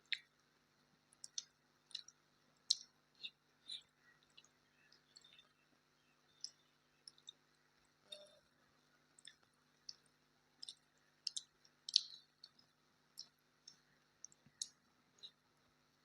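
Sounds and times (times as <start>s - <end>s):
faint steady hum: 0.0s - 16.0s
chewing mouth clicks and smacks: 0.1s - 0.3s, 1.1s - 5.5s, 6.4s - 8.4s, 9.2s - 15.4s.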